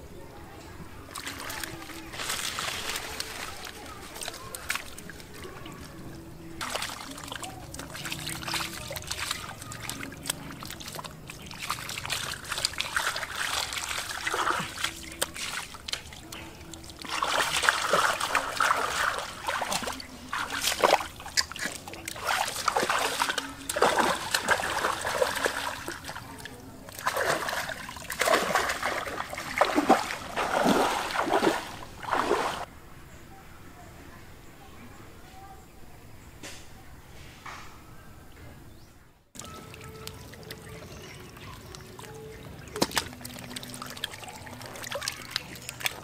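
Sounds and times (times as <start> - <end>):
splashing in shallow muddy water: 1.0 - 6.0, 6.6 - 32.7, 39.4 - 46.0.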